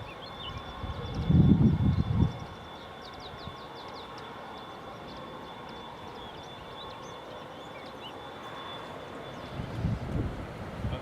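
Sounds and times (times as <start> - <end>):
small birds chirping: 0.0 - 9.8
distant jet engine whine: 0.0 - 11.0.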